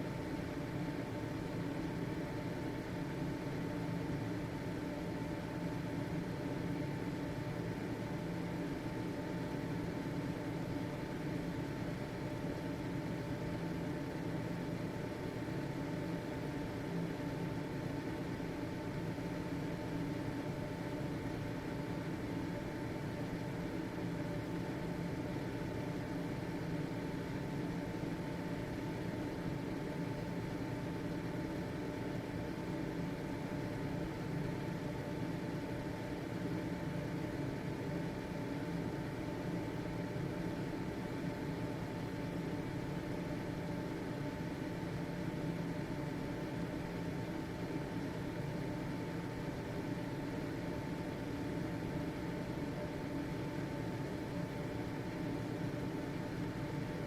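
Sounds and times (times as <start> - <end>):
exhaust fan motor humming: 0.0 - 57.0.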